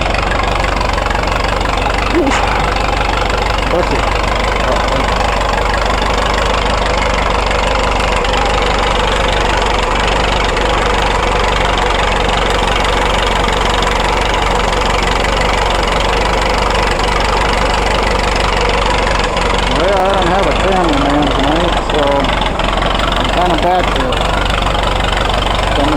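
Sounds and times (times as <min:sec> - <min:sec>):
road roller engine idling: 0:00.0 - 0:25.9.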